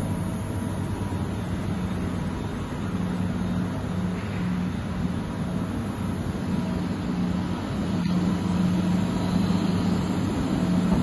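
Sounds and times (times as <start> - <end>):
machine humming and droning: 0.0 - 11.0.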